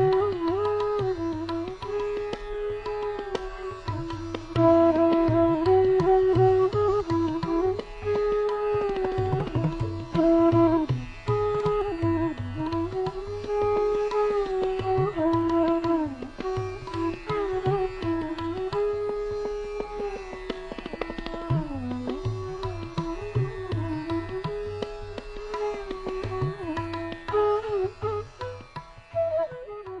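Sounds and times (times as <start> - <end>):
sliding melody instrument: 0.0 - 30.0.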